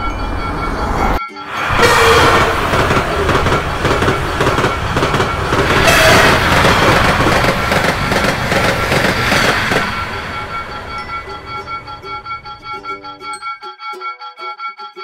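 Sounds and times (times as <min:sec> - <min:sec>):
train wheels on rails: 0:00.0 - 0:12.6.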